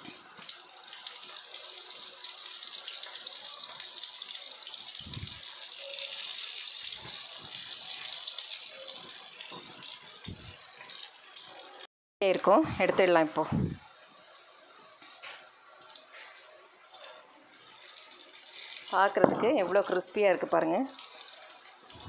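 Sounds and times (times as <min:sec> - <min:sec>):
fish sizzling in oil: 0:00.0 - 0:11.9, 0:12.9 - 0:22.0.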